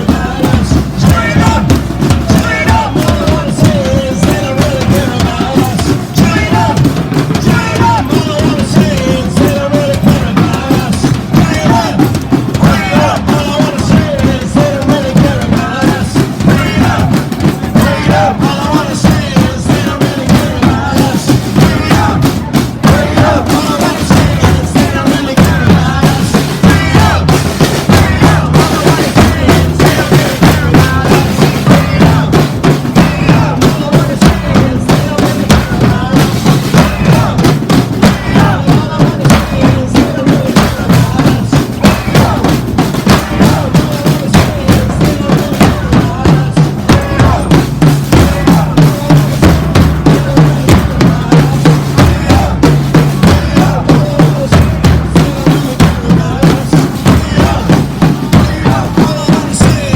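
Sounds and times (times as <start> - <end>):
music with drum beat and bass: 0.0 - 59.9
voices over music: 0.0 - 59.9.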